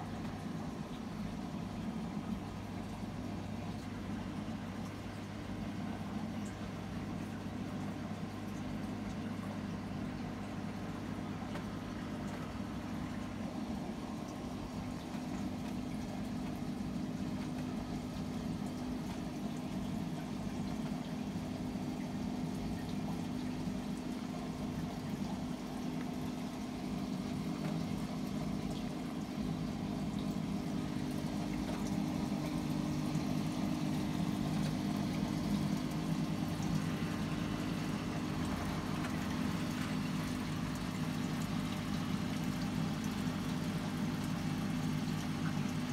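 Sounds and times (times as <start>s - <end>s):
filter pump humming: 0.0s - 45.9s
water flowing: 8.4s - 45.9s.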